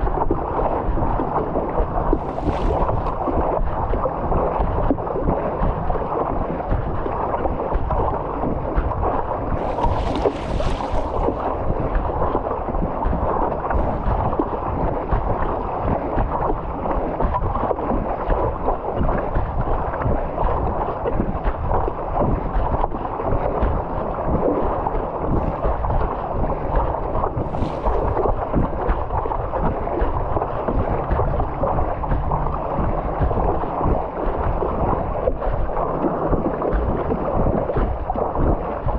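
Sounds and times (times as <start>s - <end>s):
water sloshing around paddleboard: 0.0s - 38.9s
wind buffeting microphone: 0.0s - 38.9s.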